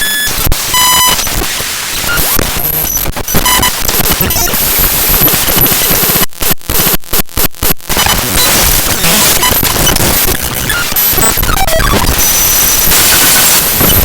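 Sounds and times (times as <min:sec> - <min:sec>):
harsh digital noise: 0:00.0 - 0:14.0.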